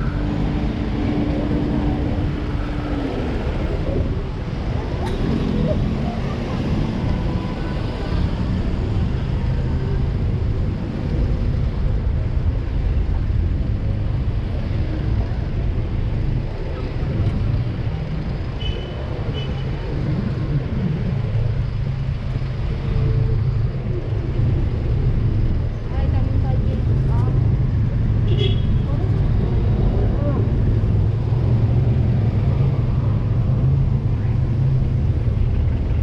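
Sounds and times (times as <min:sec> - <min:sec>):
street traffic rumbling: 0:00.0 - 0:36.0.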